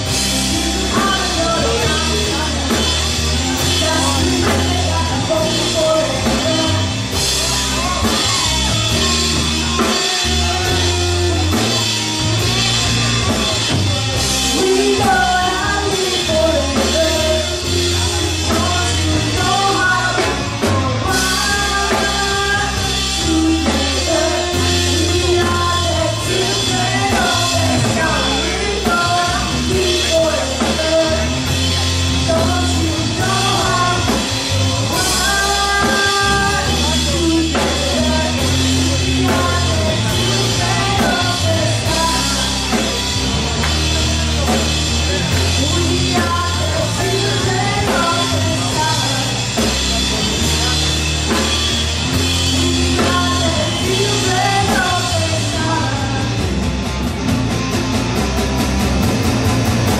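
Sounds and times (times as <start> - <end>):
woman singing lead: 0.0 - 57.2
bass guitar: 0.0 - 59.9
drum kit: 0.0 - 59.9
electric guitar: 0.0 - 59.9.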